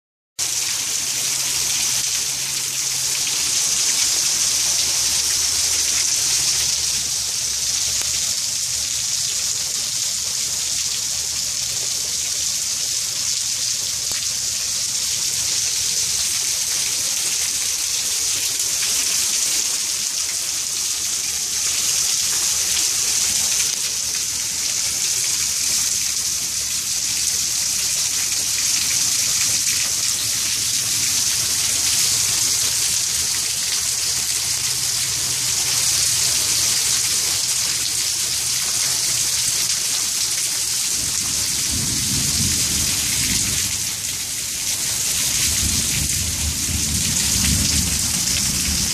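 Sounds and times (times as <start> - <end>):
steady rain pouring: 0.4 - 48.9.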